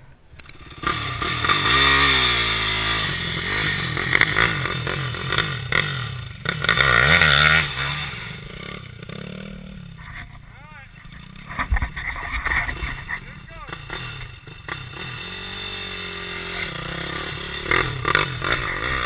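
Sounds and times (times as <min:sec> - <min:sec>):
quad engine revving: 0:00.4 - 0:19.0.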